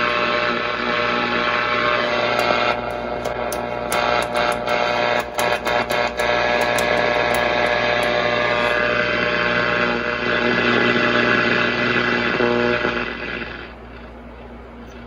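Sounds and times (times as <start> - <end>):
crackles: 0.0 - 15.0
radio hum: 0.0 - 15.0
radio static hiss: 0.0 - 15.0.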